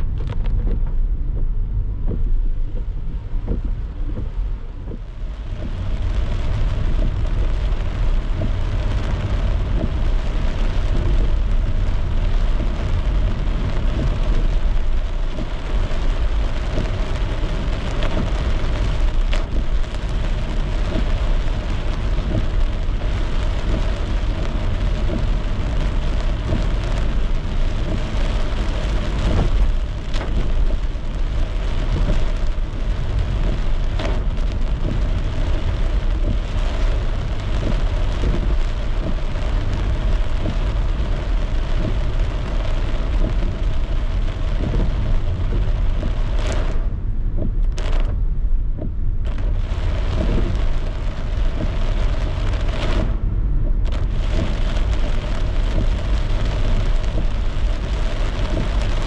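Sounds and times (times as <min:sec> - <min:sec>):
rain hiss: 0:00.0 - 0:48.6, 0:49.2 - 0:59.0
low road rumble: 0:00.0 - 0:59.0
tyres on wet road: 0:00.0 - 0:59.0.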